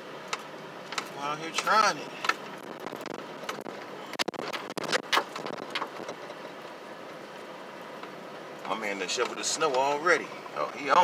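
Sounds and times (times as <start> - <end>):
tyres and engine rumbling: 0.0 - 11.0.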